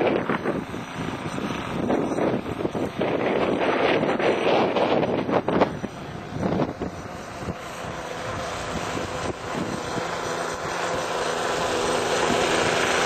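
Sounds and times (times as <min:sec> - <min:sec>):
model airplane motor humming: 0:00.0 - 0:13.0
wind on microphone: 0:00.0 - 0:13.0.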